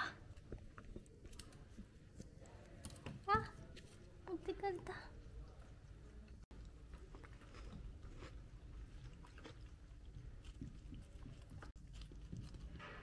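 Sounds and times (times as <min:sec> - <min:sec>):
guinea pig chewing: 0:00.1 - 0:13.0.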